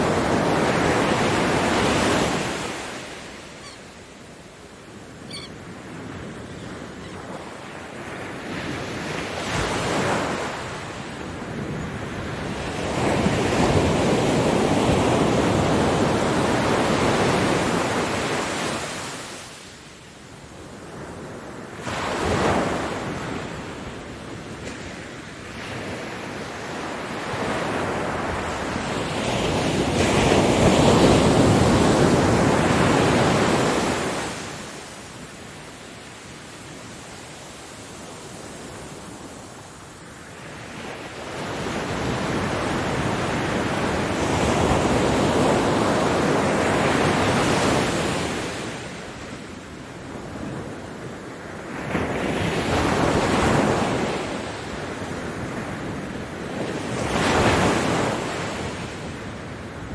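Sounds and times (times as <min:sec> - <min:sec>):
ocean waves washing: 0:00.0 - 0:59.9.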